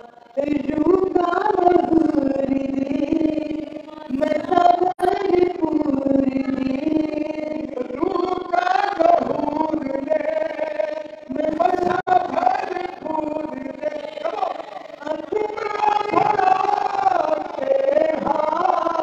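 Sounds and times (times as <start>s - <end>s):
person singing devotional song: 0.0s - 19.0s.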